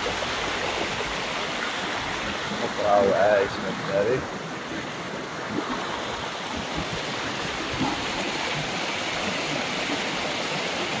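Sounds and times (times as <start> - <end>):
flowing stream water: 0.0 - 11.0.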